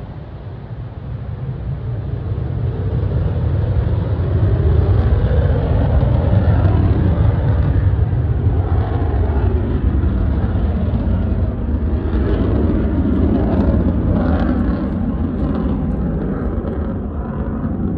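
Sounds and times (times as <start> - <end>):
jet engine rumbling: 0.0 - 17.9.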